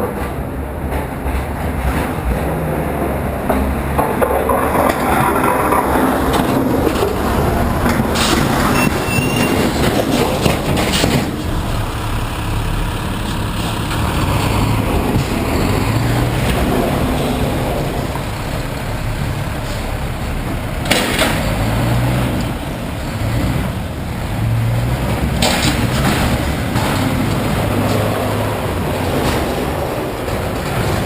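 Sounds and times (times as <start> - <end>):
knocks and clatters: 0.0 - 12.3, 13.2 - 22.7, 24.4 - 31.0
heavy truck engine running: 0.0 - 31.0.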